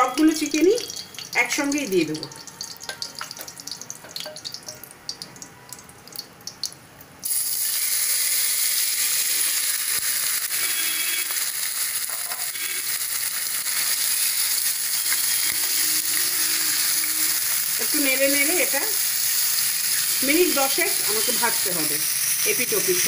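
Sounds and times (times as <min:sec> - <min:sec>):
oil sizzling in a wok: 0:00.0 - 0:05.3, 0:07.2 - 0:23.0.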